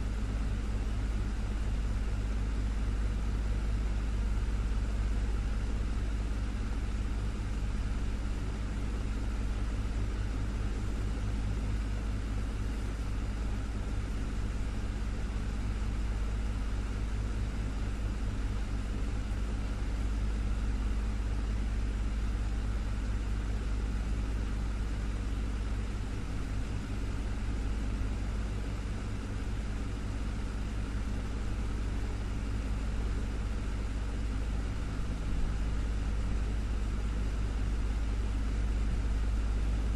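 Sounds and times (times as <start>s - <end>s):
desktop fan running: 0.0s - 39.9s.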